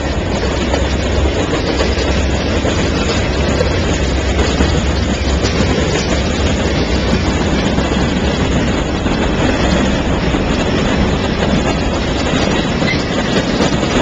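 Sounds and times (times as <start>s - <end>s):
freight train wheels rolling on rail: 0.0s - 14.0s.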